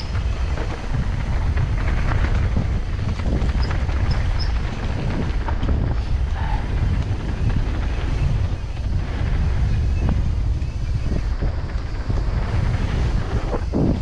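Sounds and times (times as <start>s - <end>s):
bike rattles and knocks: 0.0s - 14.0s
wind buffeting microphone: 0.0s - 14.0s.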